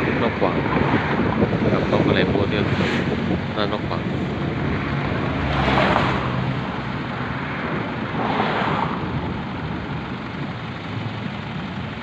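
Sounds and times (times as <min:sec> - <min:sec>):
cars passing by: 0:00.0 - 0:12.0.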